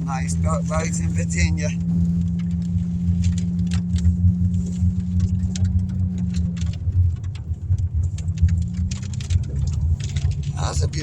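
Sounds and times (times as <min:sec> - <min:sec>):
low engine hum: 0:00.0 - 0:11.0
rain ticking on car body: 0:00.0 - 0:11.0
tyres rumbling on dirt road: 0:00.0 - 0:11.0.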